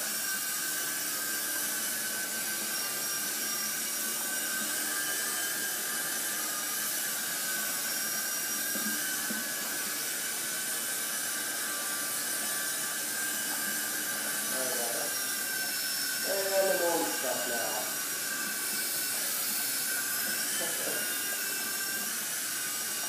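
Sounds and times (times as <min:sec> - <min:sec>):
rc helicopter rotor whine: 0:00.0 - 0:23.0.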